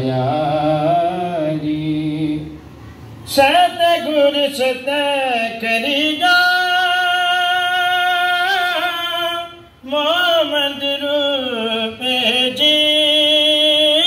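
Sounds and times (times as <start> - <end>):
person singing devotional hymn: 0.0 - 2.6, 3.2 - 14.0.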